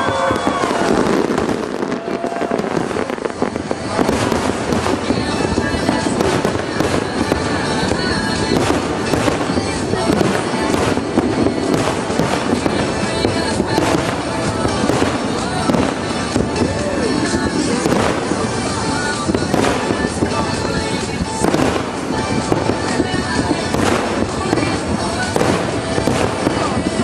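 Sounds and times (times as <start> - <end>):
fireworks bangs and crackle: 0.0 - 27.0.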